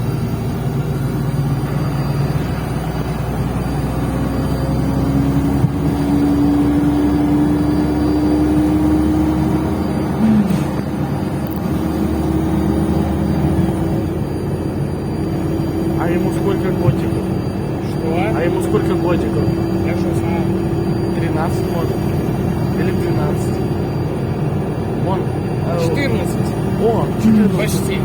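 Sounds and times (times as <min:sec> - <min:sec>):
bus engine whine: 0:00.0 - 0:28.0.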